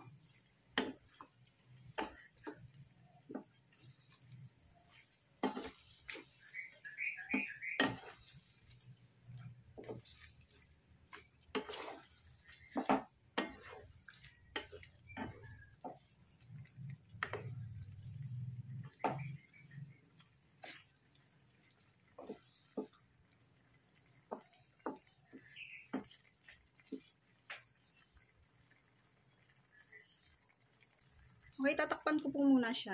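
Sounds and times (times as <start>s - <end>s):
wooden spatula scraping frying pan: 0.0s - 31.6s.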